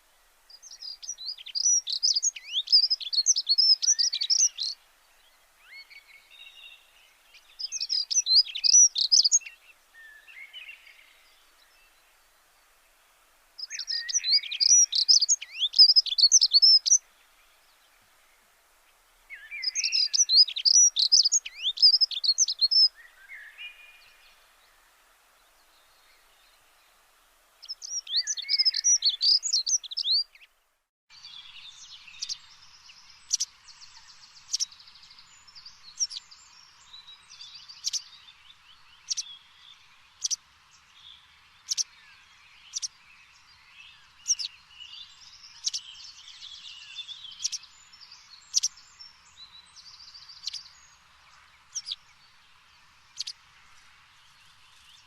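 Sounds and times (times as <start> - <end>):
songbirds warbling: 0.0 - 13.0, 13.6 - 27.0, 27.6 - 55.0.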